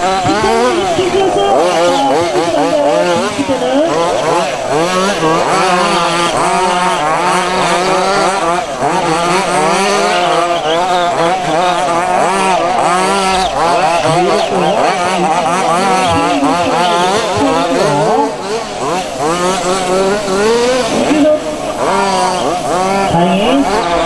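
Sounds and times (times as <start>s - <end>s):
small two-stroke engines revving: 0.0s - 24.0s.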